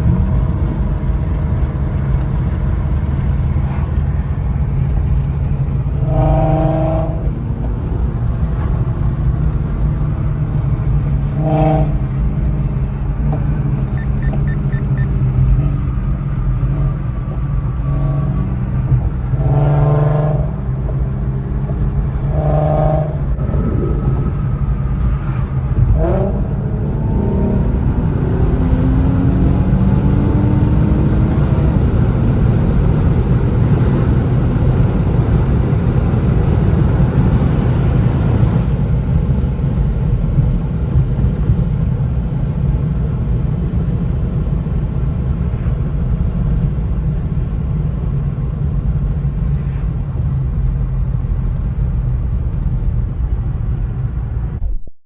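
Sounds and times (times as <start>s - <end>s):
car engine revving: 0.0s - 54.8s
road rumble: 0.0s - 55.0s.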